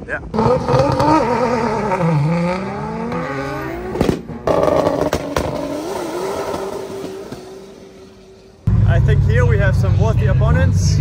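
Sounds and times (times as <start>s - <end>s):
drag car engines revving: 0.2s - 11.0s.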